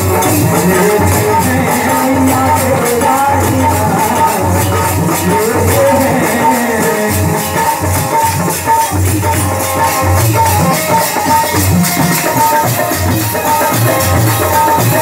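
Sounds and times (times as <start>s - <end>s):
barrel drum beating: 0.0s - 15.0s
jingling percussion: 0.0s - 15.0s.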